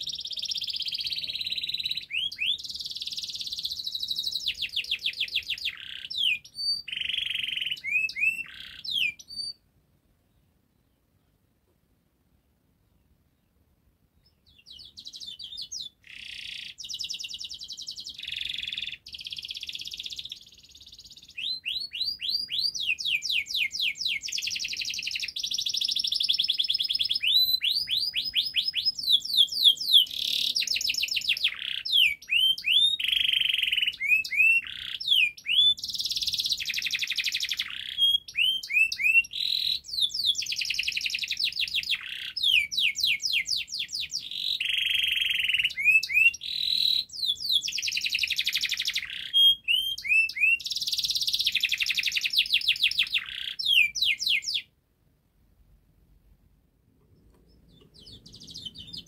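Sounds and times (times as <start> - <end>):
canary singing trills: 0.0 - 9.7, 14.2 - 54.7, 57.1 - 59.0.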